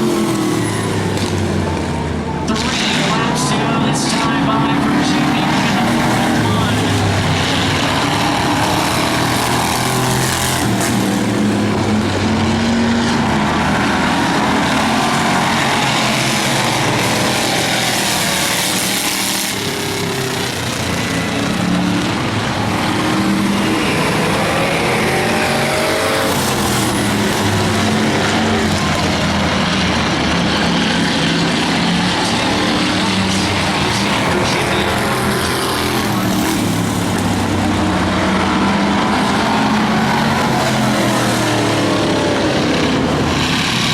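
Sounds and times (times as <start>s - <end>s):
race car engines accelerating: 0.0s - 43.9s.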